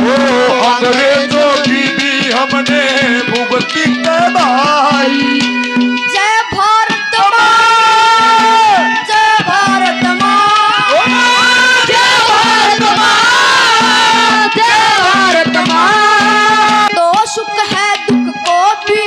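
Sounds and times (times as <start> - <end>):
hand drum beat: 0.0 - 6.4, 7.2 - 19.0
harmonium: 0.0 - 19.0.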